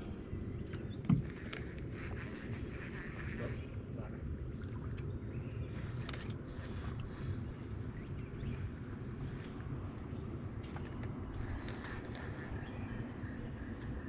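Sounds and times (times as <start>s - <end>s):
insect drone: 0.0s - 14.0s
wind and water rumbling: 0.0s - 14.0s.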